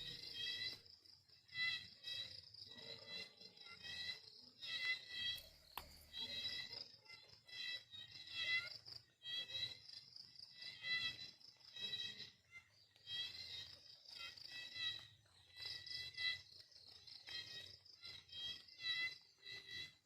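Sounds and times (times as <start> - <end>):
crickets trilling: 0.0 - 20.0
pulsed insect chirp: 0.0 - 20.0.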